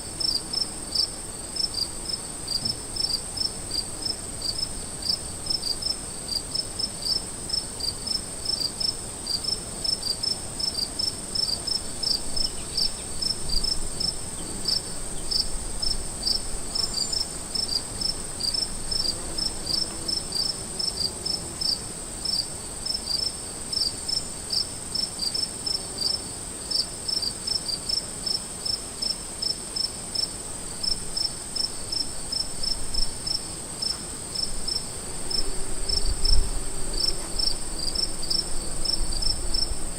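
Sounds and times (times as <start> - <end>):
cricket chirping: 0.2 - 39.9.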